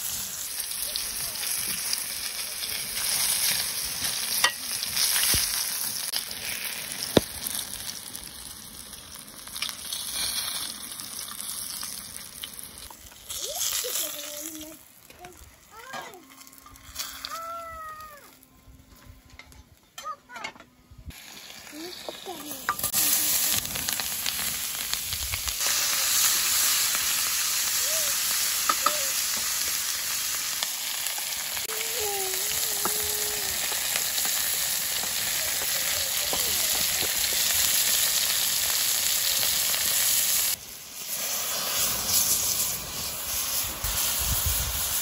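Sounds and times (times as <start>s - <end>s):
onions sizzling in oil: 0.0s - 18.3s, 21.1s - 45.0s.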